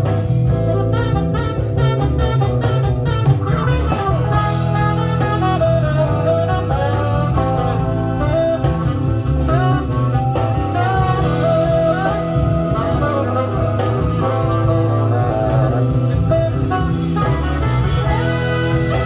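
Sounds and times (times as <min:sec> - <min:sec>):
band music with guitar: 0:00.0 - 0:19.0.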